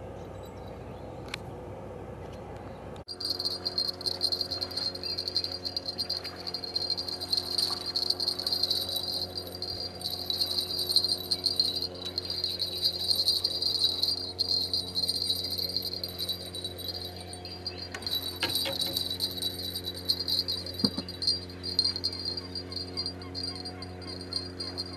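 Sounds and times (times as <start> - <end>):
low steady hum: 0.0 - 24.9
crickets chirping: 3.1 - 24.9.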